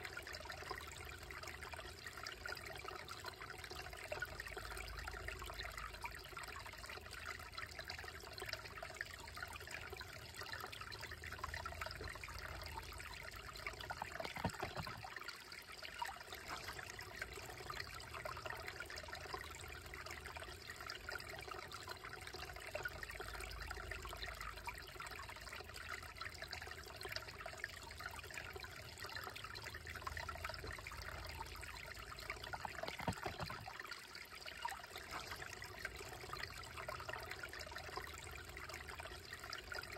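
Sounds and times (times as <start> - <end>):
creek trickling over rocks: 0.0 - 39.9.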